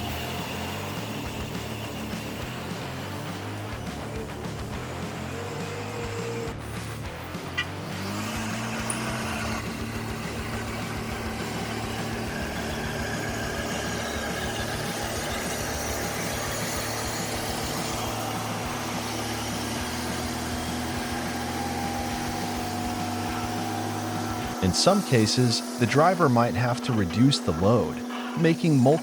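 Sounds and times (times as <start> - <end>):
heavy truck engine running: 0.0 - 29.0.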